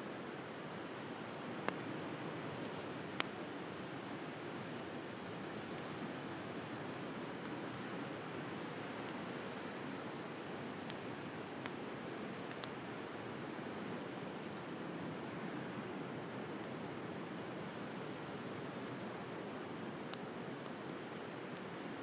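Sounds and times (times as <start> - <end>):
bonfire crackling and popping: 0.1 - 21.9.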